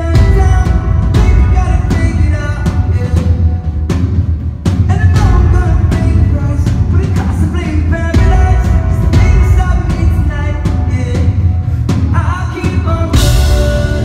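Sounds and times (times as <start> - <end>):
person singing: 0.0 - 4.0, 4.9 - 14.0
drums pounding: 0.0 - 14.0
heavy bass: 0.0 - 14.0.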